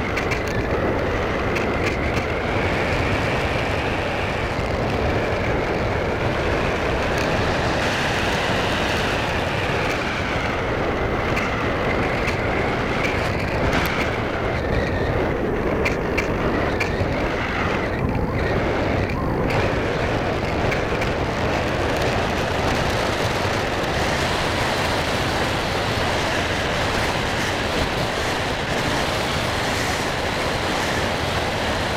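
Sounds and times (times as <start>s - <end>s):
wind rumbling on microphone: 0.0s - 31.9s.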